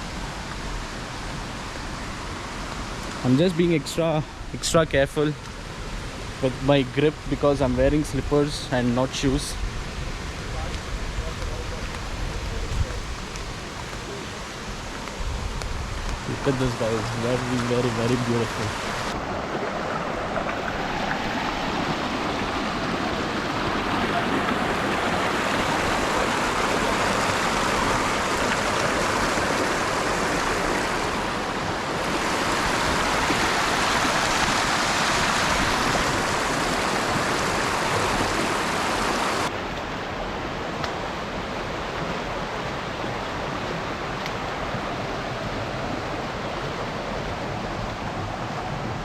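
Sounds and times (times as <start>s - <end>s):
fast-flowing river rushing: 8.8s - 49.0s.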